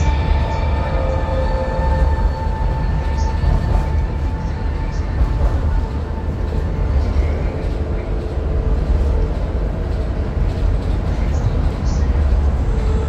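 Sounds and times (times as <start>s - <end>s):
funicular train rumbling: 0.0s - 13.0s.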